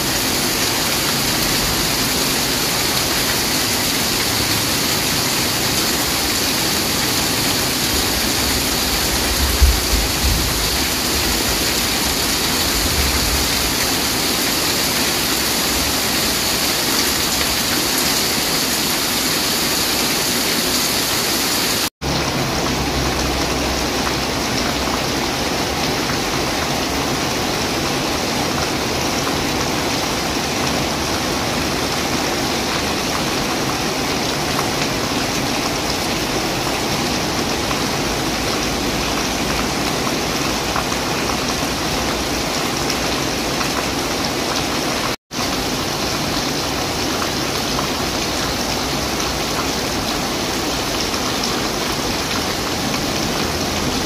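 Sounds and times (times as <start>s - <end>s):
steady rain on leaves and roofs: 0.0s - 54.0s.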